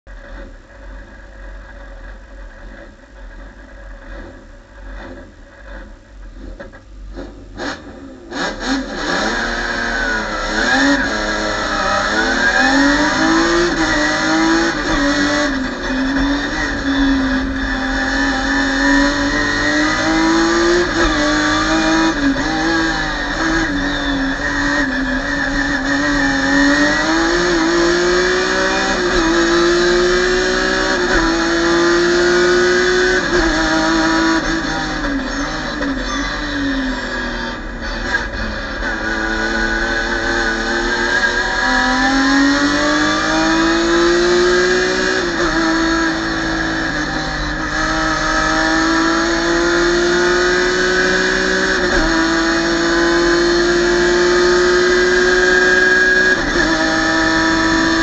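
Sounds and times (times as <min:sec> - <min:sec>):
race car engine accelerating: 0:06.5 - 0:58.0.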